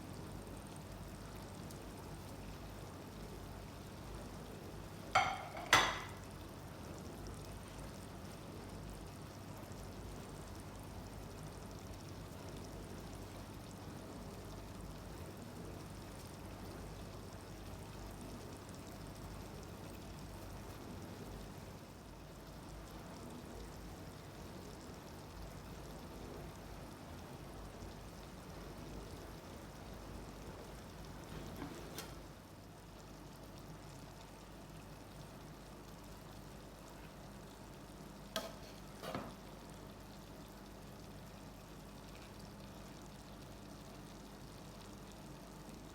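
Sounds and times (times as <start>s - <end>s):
food sizzling in a pot: 0.0s - 45.9s.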